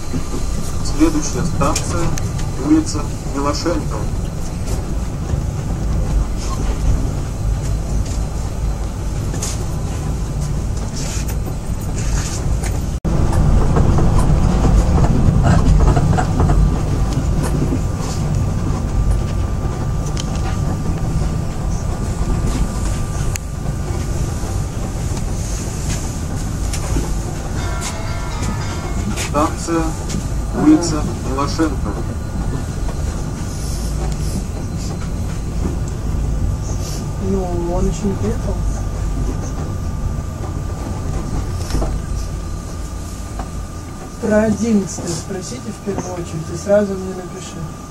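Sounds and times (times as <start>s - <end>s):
train low rumble: 0.0s - 47.9s.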